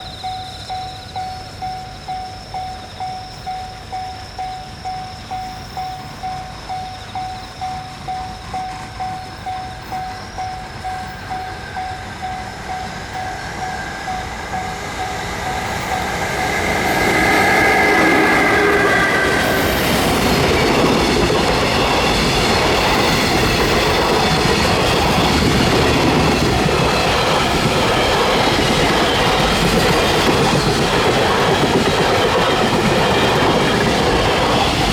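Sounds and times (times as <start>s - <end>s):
freight wagons rumbling on rails: 0.0s - 34.9s
locomotive high-pitched note: 0.0s - 34.9s.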